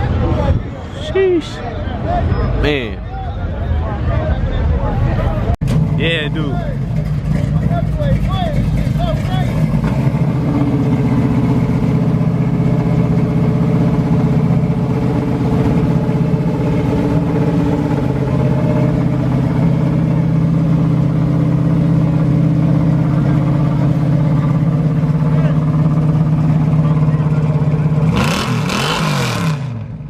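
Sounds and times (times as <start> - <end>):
car engine running: 5.6 - 30.0.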